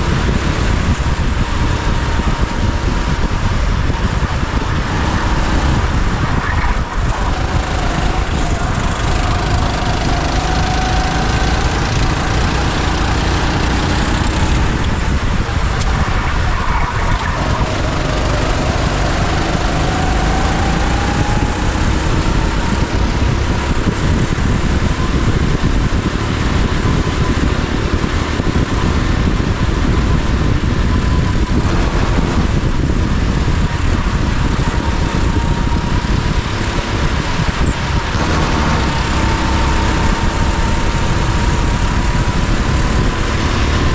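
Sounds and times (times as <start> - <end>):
go-kart engine running hard: 0.0 - 43.9.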